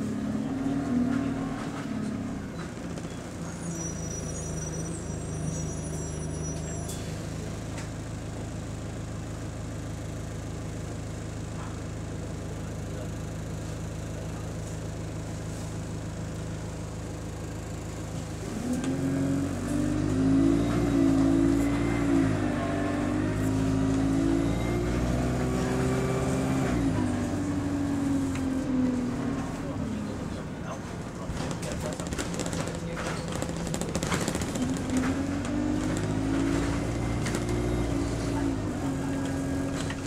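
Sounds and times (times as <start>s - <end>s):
bus diesel engine: 0.0s - 40.0s.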